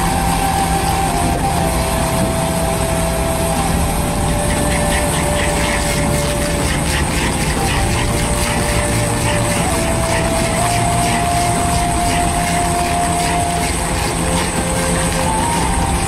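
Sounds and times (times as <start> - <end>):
engine drone: 0.0 - 16.0
stump drill whine: 0.0 - 16.0
wood crackling: 0.0 - 16.0.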